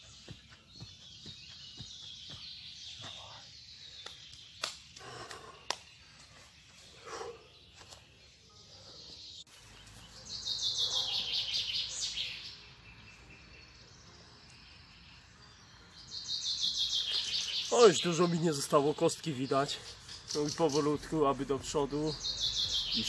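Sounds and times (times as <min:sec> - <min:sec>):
faint outdoor background: 0:00.0 - 0:23.0
songbird trill: 0:00.0 - 0:23.0.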